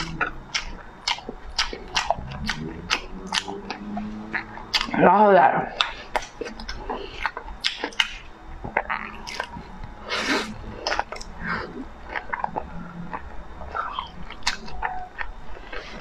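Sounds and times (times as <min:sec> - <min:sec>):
close chewing with mouth clicks: 0:00.0 - 0:05.0, 0:05.7 - 0:16.0.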